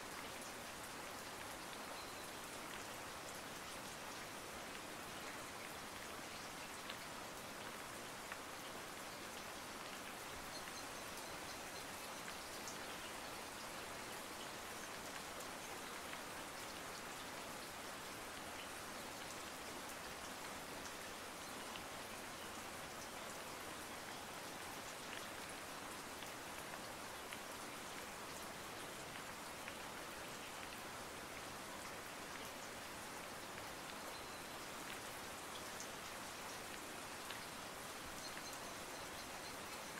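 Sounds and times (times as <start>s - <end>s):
faint even hiss with ticks: 0.0s - 39.9s.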